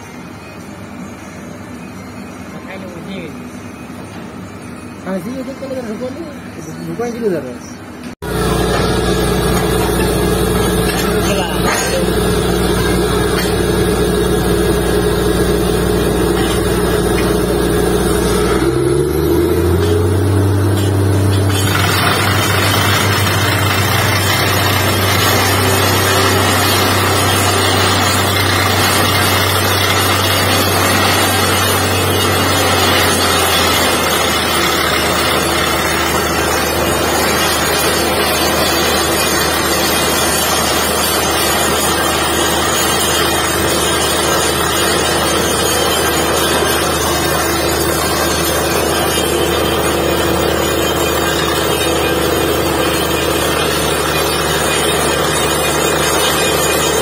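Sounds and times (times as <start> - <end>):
drilling rig engine droning: 8.2 - 57.0.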